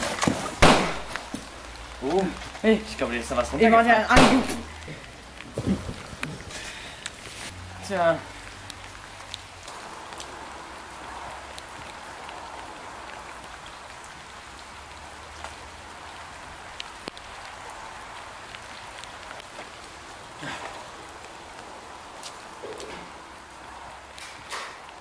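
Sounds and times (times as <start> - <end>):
light rain hissing: 0.0 - 25.0
raindrops ticking: 0.0 - 25.0.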